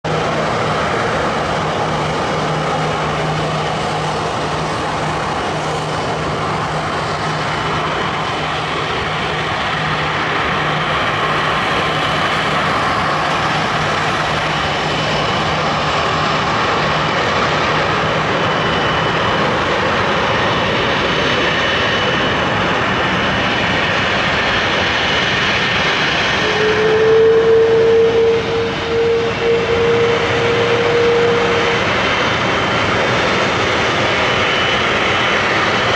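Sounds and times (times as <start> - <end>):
jet engine rushing: 0.0 - 35.9
jet engine whine: 0.0 - 35.9.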